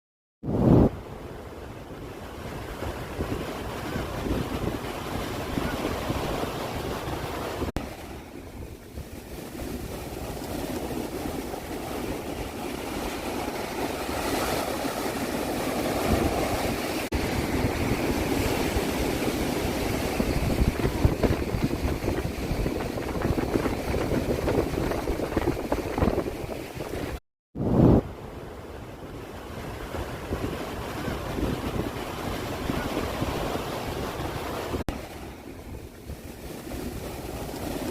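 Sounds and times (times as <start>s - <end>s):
ocean waves washing ashore: 0.4s - 37.9s
wind buffeting microphone: 1.9s - 28.5s, 29.1s - 37.9s.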